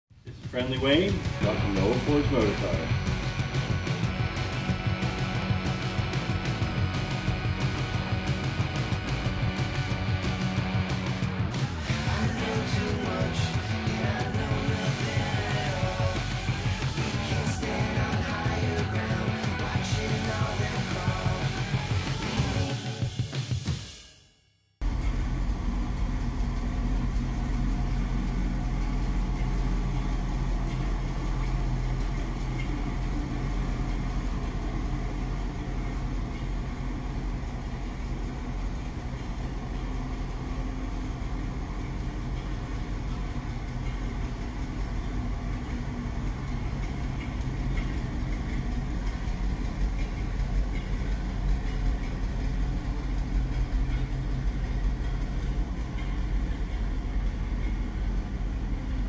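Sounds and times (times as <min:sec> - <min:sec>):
truck engine idling: 0:00.1 - 0:23.2, 0:24.8 - 0:59.0.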